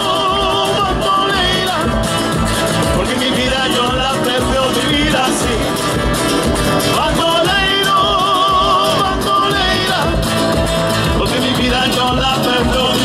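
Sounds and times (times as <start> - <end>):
acoustic guitars: 0.0 - 13.0
drum beat: 0.0 - 13.0.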